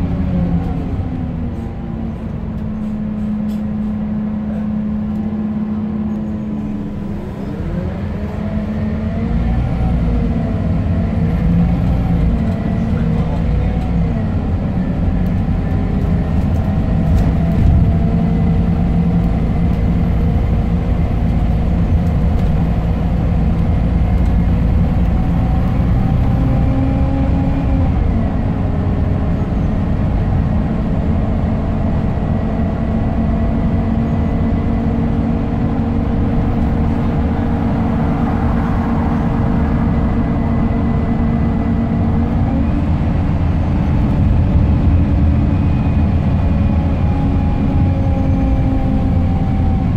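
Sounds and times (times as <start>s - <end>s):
bus diesel engine: 0.0s - 49.9s
low road rumble: 0.0s - 49.9s.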